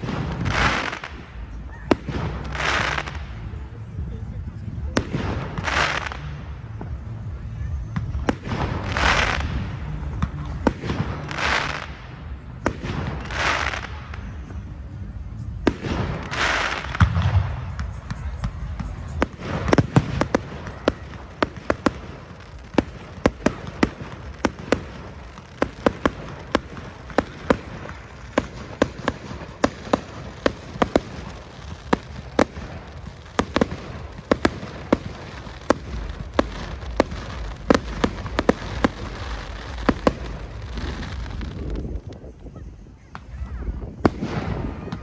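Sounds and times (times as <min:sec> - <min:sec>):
fireworks bangs: 0:00.0 - 0:45.0
low background rumble: 0:00.0 - 0:45.0.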